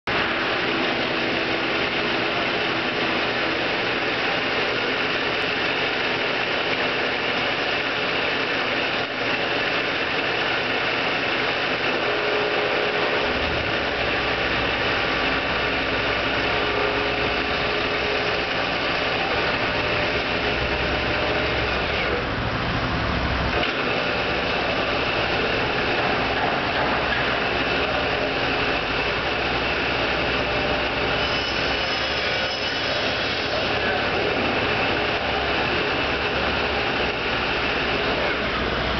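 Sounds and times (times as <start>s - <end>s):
lathe whirring: 0.1s - 38.9s.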